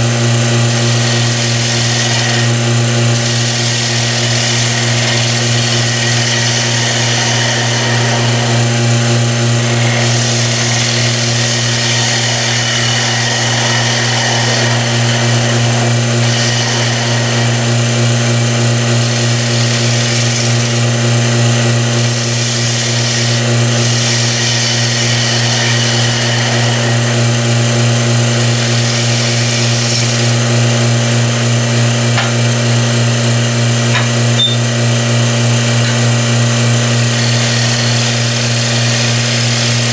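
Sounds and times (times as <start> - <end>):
gouge cutting wood on a lathe: 0.0 - 39.9
vacuum pump humming: 0.0 - 39.9.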